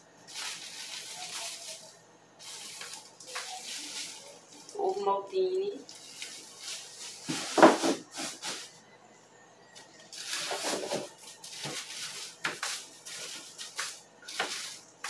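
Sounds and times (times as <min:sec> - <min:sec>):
plastic rustling: 0:00.2 - 0:08.8, 0:09.8 - 0:15.0.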